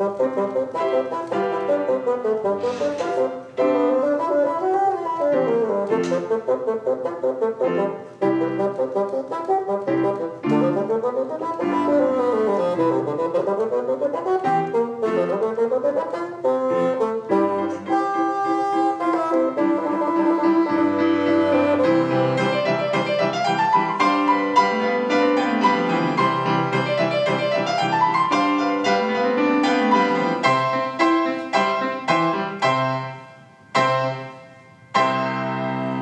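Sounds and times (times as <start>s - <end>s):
grand piano playing: 0.0s - 36.0s.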